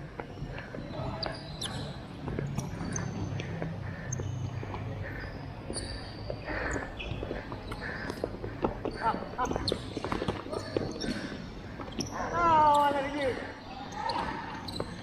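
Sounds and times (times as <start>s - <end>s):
sneakers squeaking: 0.0s - 15.0s.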